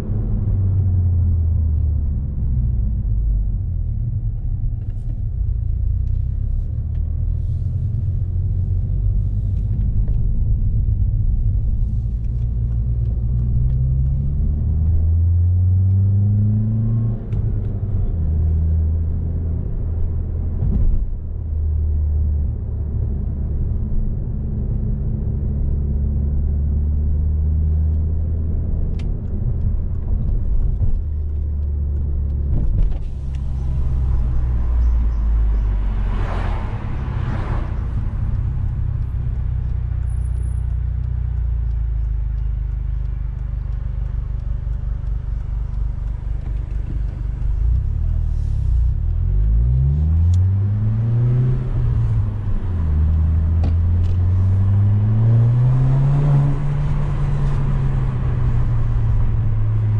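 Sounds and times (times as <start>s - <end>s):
car engine droning: 0.0s - 59.9s
road noise: 0.0s - 59.9s.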